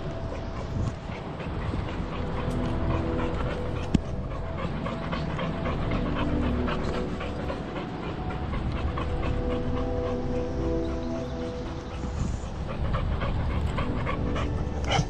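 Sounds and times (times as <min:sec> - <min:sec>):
low rumble of movement: 0:00.0 - 0:15.0
rapid panting: 0:00.0 - 0:15.0.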